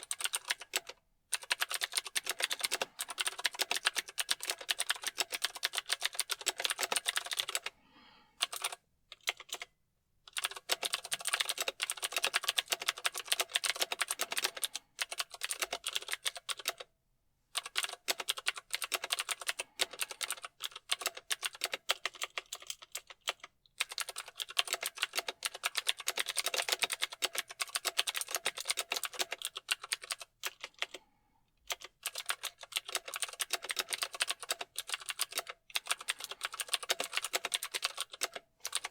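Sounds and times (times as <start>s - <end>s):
mechanical keyboard typing: 0.0s - 7.7s, 8.4s - 9.7s, 10.3s - 16.9s, 17.6s - 31.0s, 31.7s - 38.9s.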